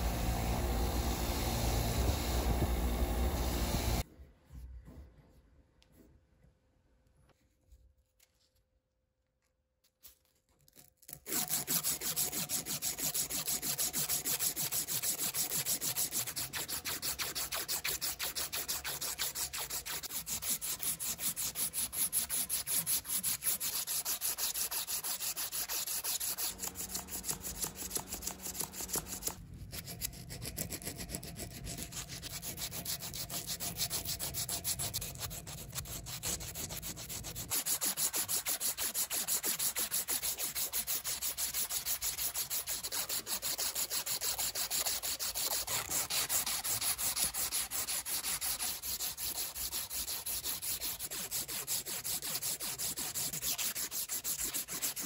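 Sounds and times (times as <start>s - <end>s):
hand sanding strokes: 0.0s - 4.0s, 11.4s - 55.0s.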